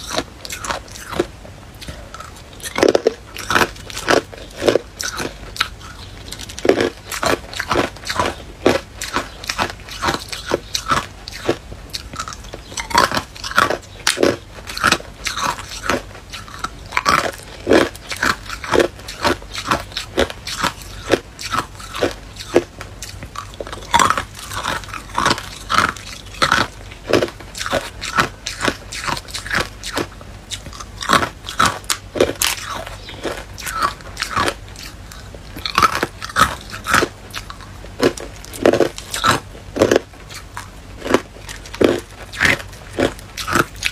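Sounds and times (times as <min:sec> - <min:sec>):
ice cubes crunching being chewed: 0:00.0 - 0:43.9.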